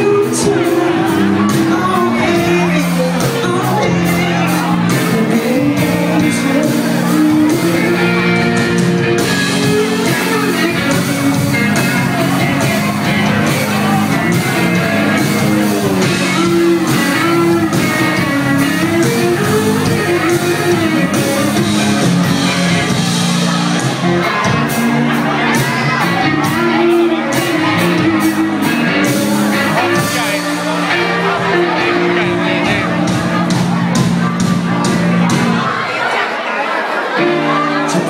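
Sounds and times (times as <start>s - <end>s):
audience shouting along: 0.0s - 38.0s
live pop-rock band: 0.0s - 38.0s.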